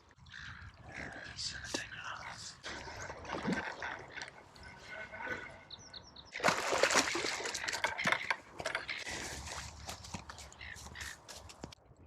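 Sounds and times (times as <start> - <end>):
water splashing: 0.0 - 5.7, 6.3 - 11.6.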